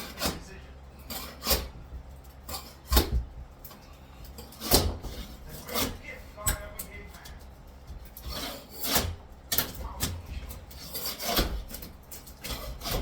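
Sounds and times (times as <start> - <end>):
hand tools scraping wall: 0.0 - 13.0.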